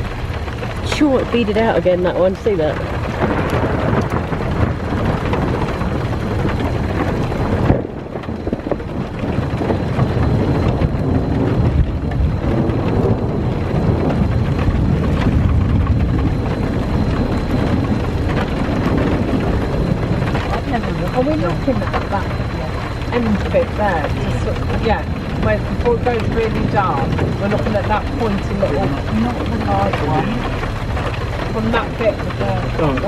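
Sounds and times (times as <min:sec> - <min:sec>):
low rumble of thunder: 0:00.0 - 0:33.0
steady rain: 0:00.0 - 0:33.0.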